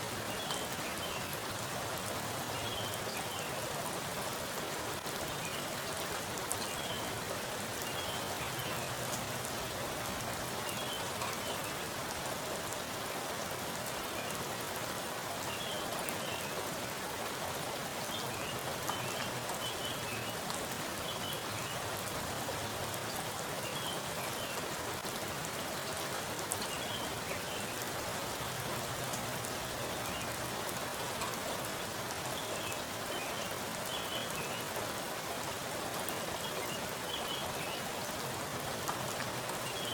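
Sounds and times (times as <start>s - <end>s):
heavy rain splashing on water: 0.0s - 39.9s.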